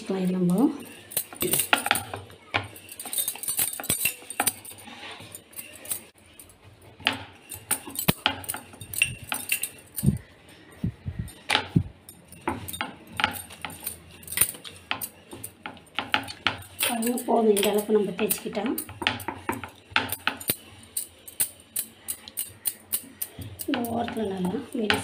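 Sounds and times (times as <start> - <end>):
clicks clinks and knocks: 0.3 - 25.0.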